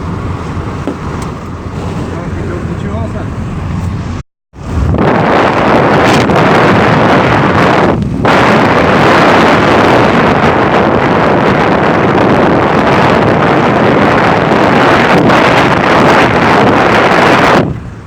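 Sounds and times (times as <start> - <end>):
wind through open car window: 0.0 - 18.0.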